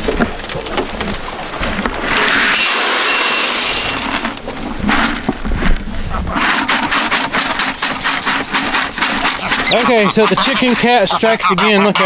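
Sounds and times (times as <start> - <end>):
rustling and crunching: 0.0 - 11.4.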